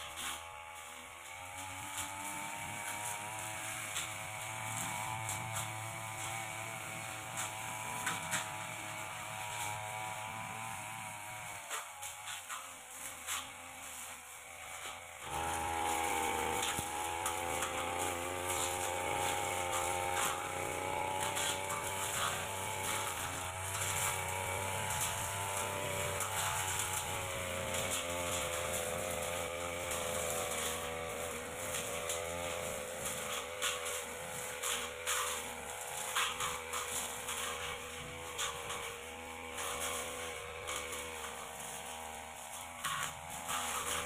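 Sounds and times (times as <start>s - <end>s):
blade cutting through grass: 0.0s - 44.0s
brush cutter engine revving: 0.0s - 44.0s.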